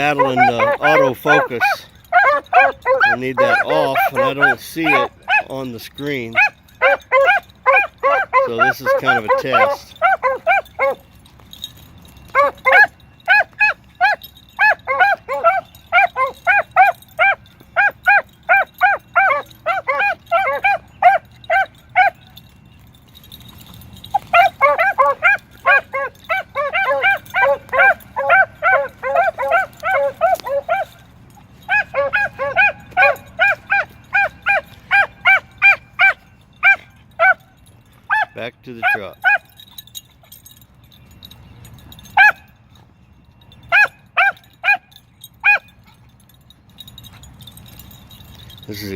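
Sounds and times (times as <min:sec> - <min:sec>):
hounds barking: 0:00.0 - 0:42.6, 0:43.6 - 0:48.5.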